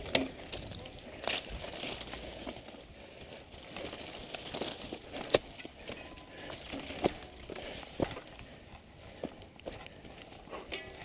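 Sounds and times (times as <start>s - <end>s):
bike rattling over bumps: 0.0s - 11.0s
bike tyres crunching on dirt: 0.0s - 11.0s.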